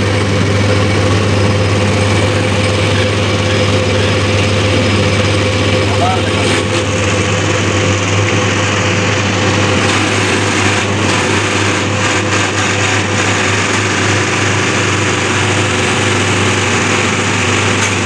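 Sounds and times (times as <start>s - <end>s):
test bench machine running: 0.0s - 18.0s.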